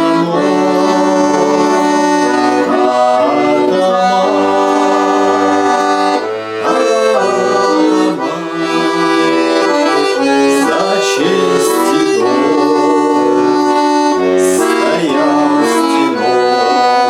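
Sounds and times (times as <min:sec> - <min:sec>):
accordion melody: 0:00.0 - 0:17.0
person singing slow song: 0:00.0 - 0:17.0.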